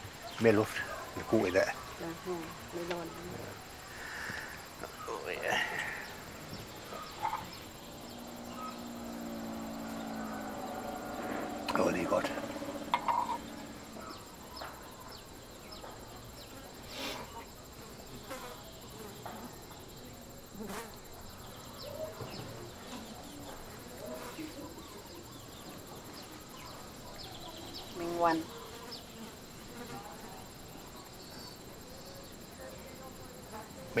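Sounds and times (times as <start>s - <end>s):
faint chirps: 0.0s - 33.1s
insects buzzing: 0.0s - 34.0s.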